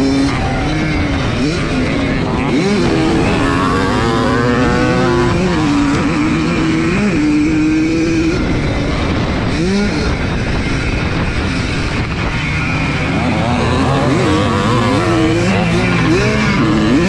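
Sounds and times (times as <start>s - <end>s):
motorcycle engine revving: 0.0s - 17.0s
wind noise: 0.0s - 17.0s.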